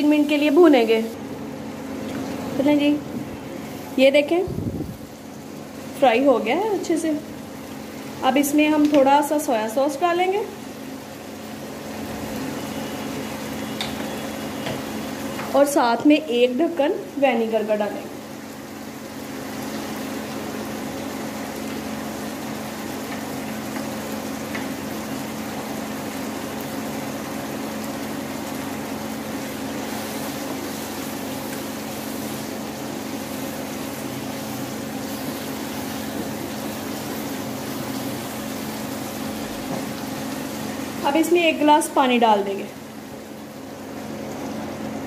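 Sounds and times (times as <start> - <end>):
chicken sizzling in a pan: 3.4 - 45.0.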